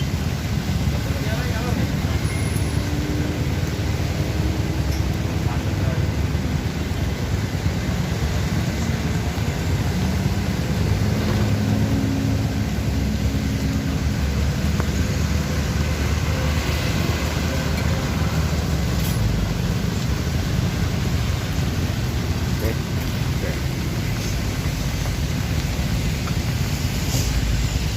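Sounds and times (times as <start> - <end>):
bus engine rumbling: 0.0 - 27.9.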